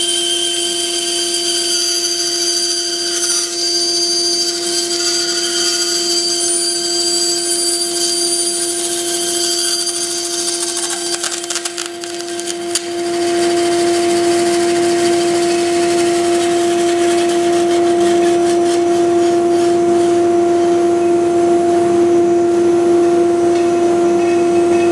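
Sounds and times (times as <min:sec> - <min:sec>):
bandsaw cutting plastic and metal: 0:00.0 - 0:20.2
saw motor hum: 0:00.0 - 0:21.0.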